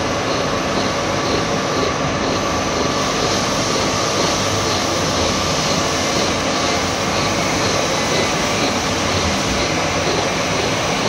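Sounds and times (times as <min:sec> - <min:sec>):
milling machine cutting gear teeth: 0:00.0 - 0:11.0.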